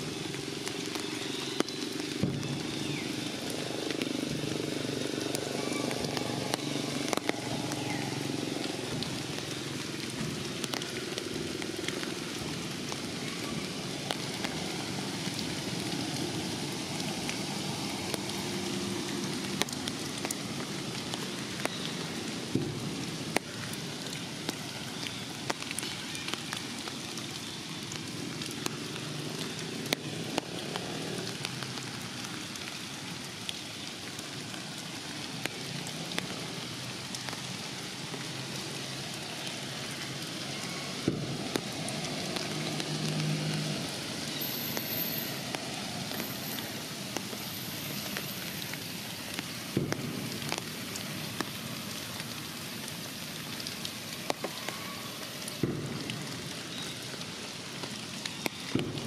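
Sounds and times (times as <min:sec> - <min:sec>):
rain hissing on foliage: 0:00.0 - 0:59.0
raindrops ticking on leaves: 0:00.0 - 0:59.0.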